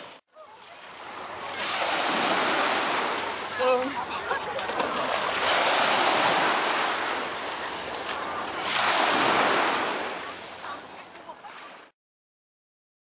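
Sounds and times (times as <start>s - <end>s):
small waves washing on beach: 0.0s - 11.9s.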